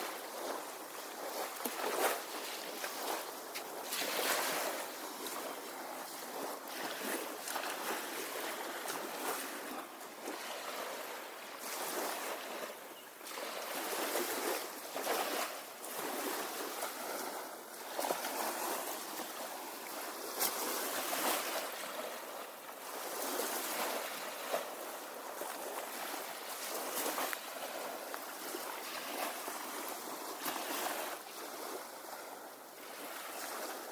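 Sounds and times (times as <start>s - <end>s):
small waves washing onto beach: 0.0s - 33.9s.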